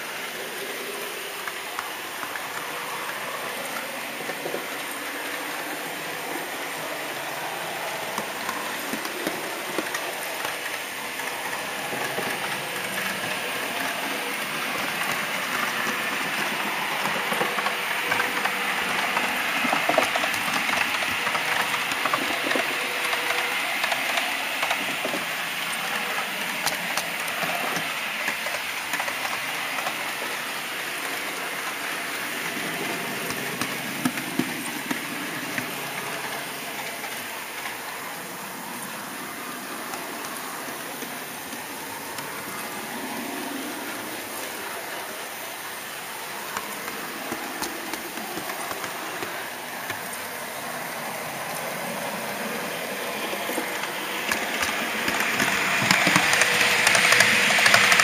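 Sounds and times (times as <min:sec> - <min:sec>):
model train rattling on track: 0:00.0 - 0:58.0.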